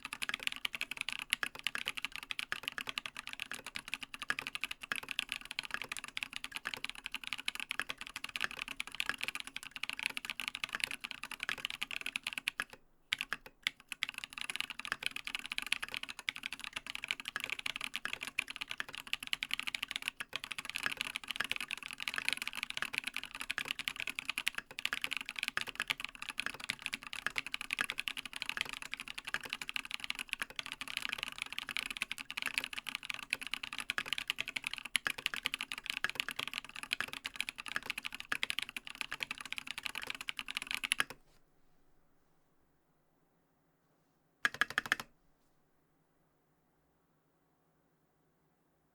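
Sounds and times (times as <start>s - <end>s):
fast mechanical keyboard typing: 0.0s - 41.2s, 44.4s - 45.1s.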